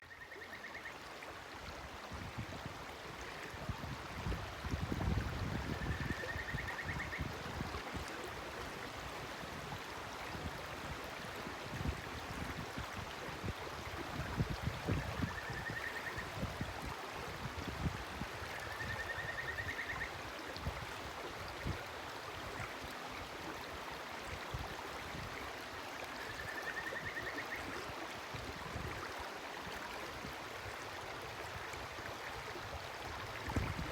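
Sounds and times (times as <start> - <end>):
river flowing and gurgling: 0.0 - 33.9.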